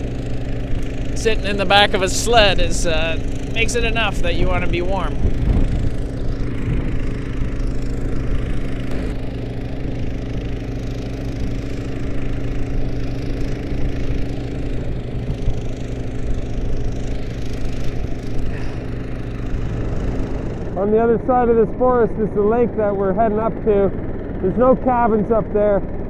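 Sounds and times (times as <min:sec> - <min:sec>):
snowmobile engine hum: 0:00.0 - 0:26.0.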